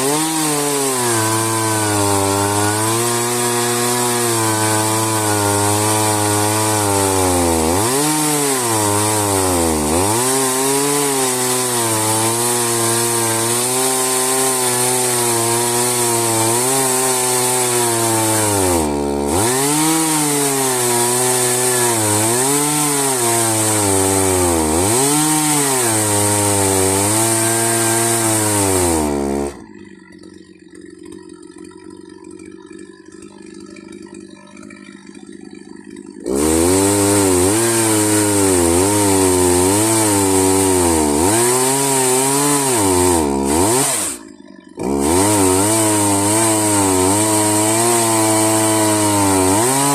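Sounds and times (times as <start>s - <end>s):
chainsaw cutting log: 0.0s - 49.9s.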